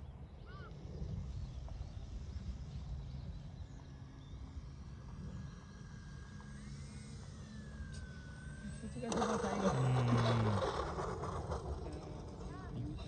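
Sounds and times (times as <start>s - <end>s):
small electric plane motor whine: 0.0s - 13.0s.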